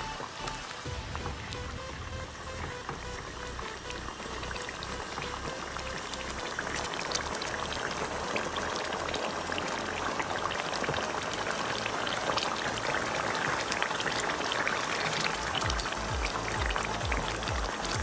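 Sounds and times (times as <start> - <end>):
sauce bubbling and sizzling in pan: 0.0 - 18.0.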